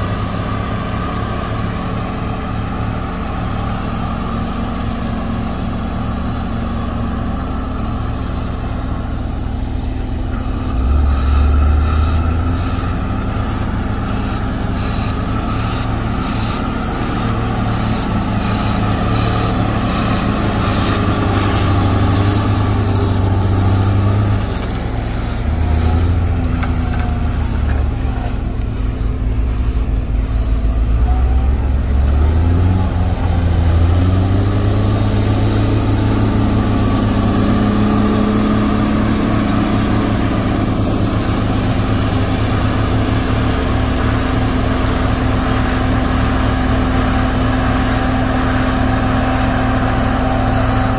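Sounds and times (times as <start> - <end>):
motor grader diesel engine: 0.0 - 50.9
road roller engine on gravel: 0.0 - 50.9.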